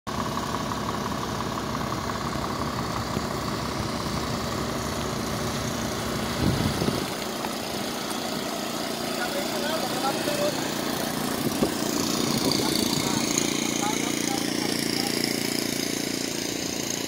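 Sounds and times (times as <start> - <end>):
vehicle engine idling: 0.1 - 17.0.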